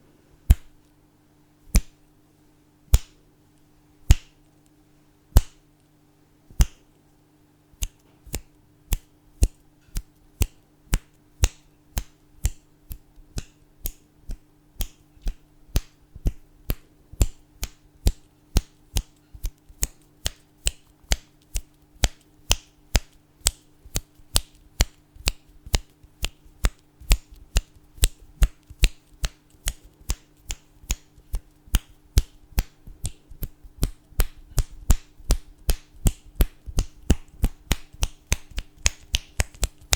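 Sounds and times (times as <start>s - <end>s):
faint low hum: 0.0s - 39.9s
fingers snapping: 0.5s - 0.8s, 1.7s - 2.0s, 2.9s - 3.2s, 4.0s - 4.6s, 5.3s - 5.6s, 6.6s - 6.9s, 7.8s - 39.9s.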